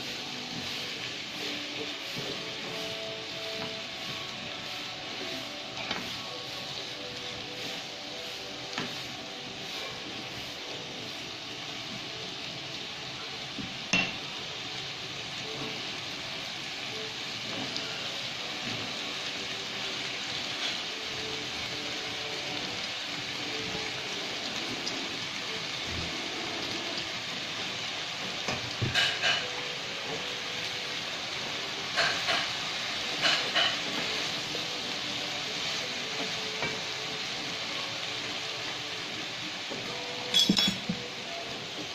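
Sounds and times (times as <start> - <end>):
food sizzling in a wok: 0.0 - 41.9.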